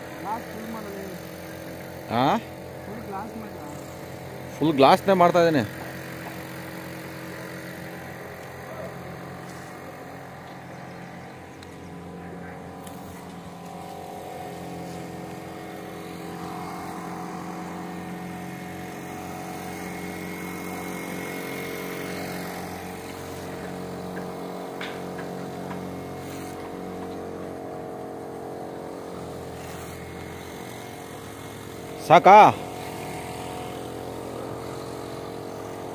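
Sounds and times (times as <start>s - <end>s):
engine running: 0.0s - 35.9s.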